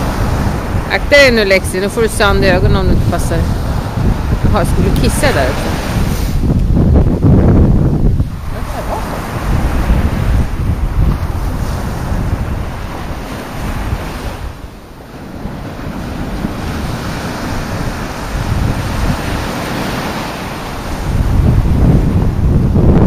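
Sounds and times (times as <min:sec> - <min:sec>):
surf washing: 0:00.0 - 0:23.0
wind buffeting microphone: 0:00.0 - 0:23.0.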